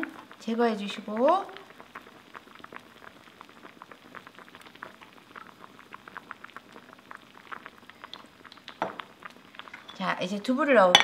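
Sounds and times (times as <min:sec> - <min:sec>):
stew bubbling: 0:00.0 - 0:11.0.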